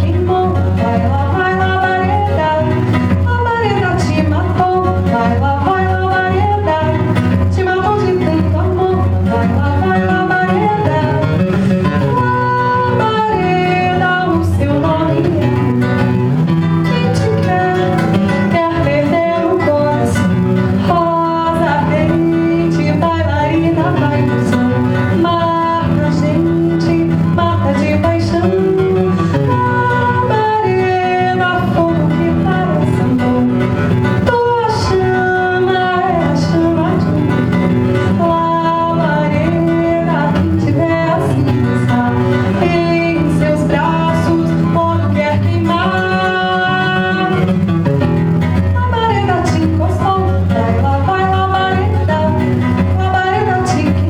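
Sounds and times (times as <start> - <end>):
nylon-string acoustic guitar: 0.0 - 54.0.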